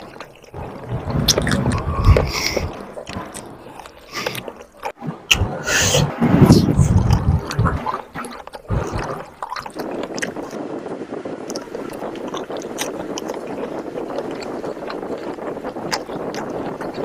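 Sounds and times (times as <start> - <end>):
chewing rice: 0.0 - 5.0, 7.1 - 10.6, 11.5 - 17.0
mouth clicks: 0.0 - 10.6, 11.5 - 17.0.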